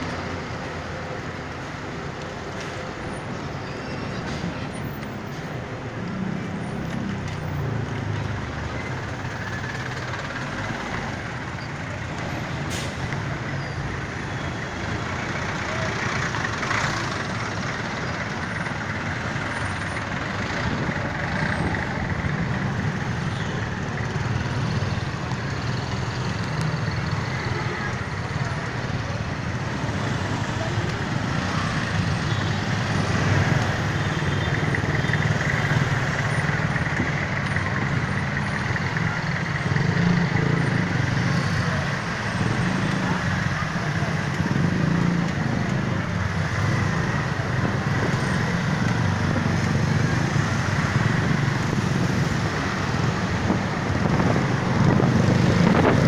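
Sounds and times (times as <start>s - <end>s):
bus and car engines: 0.0s - 56.0s.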